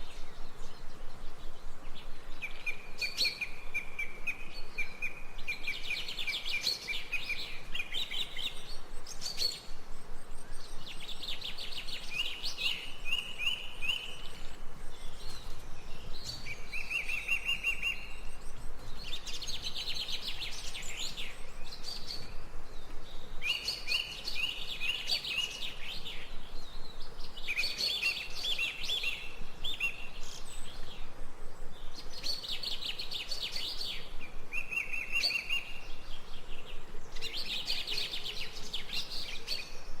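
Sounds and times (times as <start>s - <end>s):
songbird singing: 0.0s - 40.0s.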